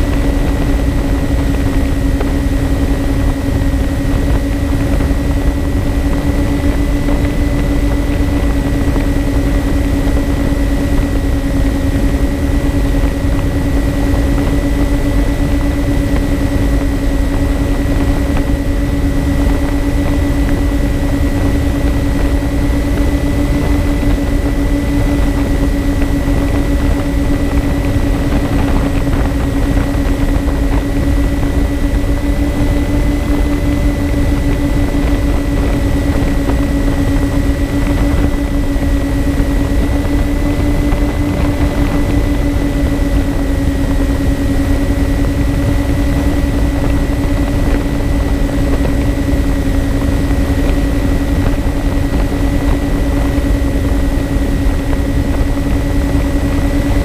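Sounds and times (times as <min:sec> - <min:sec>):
propeller hum: 0:00.0 - 0:57.0
wind rumble on microphone: 0:00.0 - 0:57.0.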